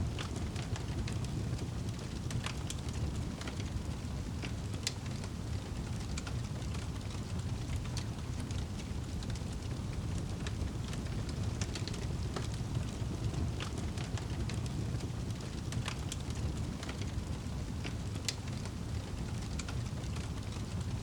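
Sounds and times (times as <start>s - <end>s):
fire crackles and pops: 0.0s - 21.0s
wood fire burning: 0.0s - 21.0s.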